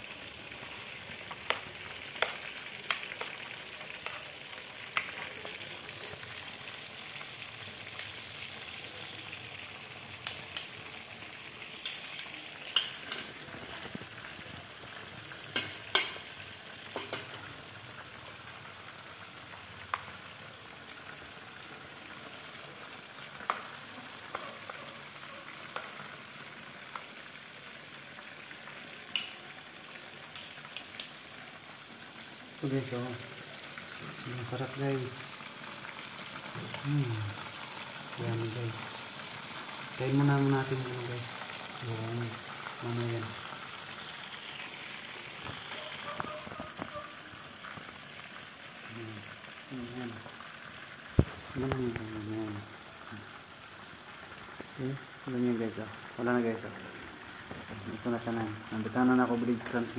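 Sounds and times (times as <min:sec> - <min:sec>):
chicken sizzling in hot oil: 0:00.0 - 0:59.9
sharp clicks of frying oil: 0:00.0 - 0:59.9.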